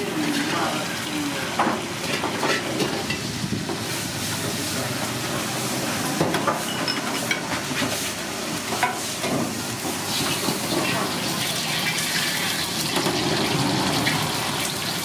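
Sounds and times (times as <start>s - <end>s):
food sizzling in frying: 0.0s - 15.0s.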